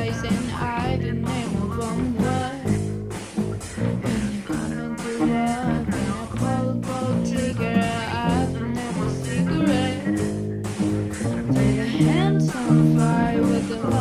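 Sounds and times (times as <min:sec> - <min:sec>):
girl singing: 0:00.0 - 0:02.8, 0:04.0 - 0:10.3, 0:11.5 - 0:14.0
acoustic guitar: 0:00.0 - 0:14.0
drum kit: 0:00.0 - 0:14.0
electric bass: 0:00.0 - 0:14.0
keyboard: 0:00.0 - 0:14.0.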